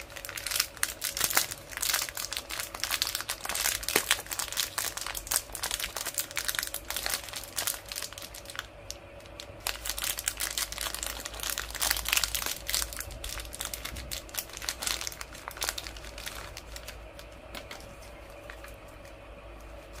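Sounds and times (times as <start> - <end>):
plastic wrappers crinkling: 0.0 - 20.0.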